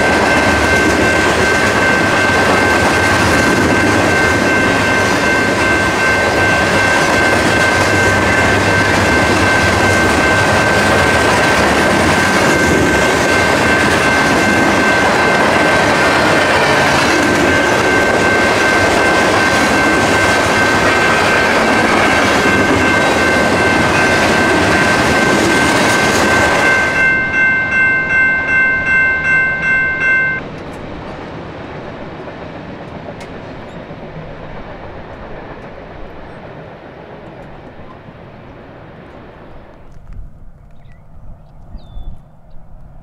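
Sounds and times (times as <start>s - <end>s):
passing train rumble: 0.0s - 43.0s.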